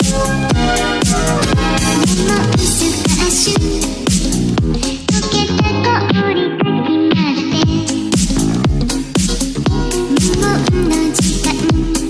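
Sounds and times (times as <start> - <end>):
kick drum: 0.0 - 6.2, 7.1 - 12.0
synth chords: 0.0 - 12.0.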